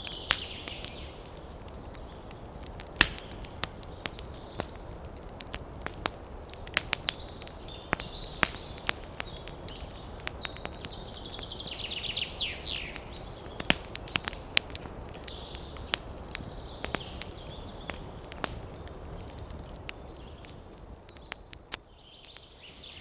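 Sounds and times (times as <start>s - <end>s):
birds chirping: 0.0s - 23.0s
campfire crackling and popping: 0.0s - 23.0s
low rumble of wind: 0.0s - 23.0s.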